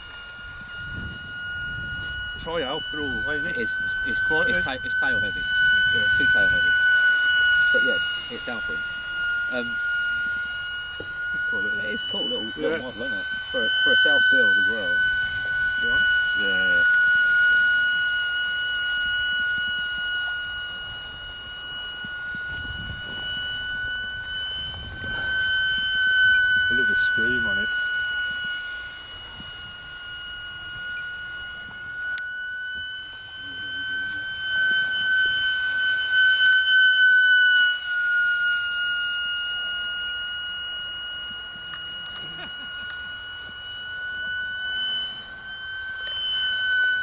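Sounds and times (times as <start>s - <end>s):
electric ducted fan whine: 0.0s - 47.0s.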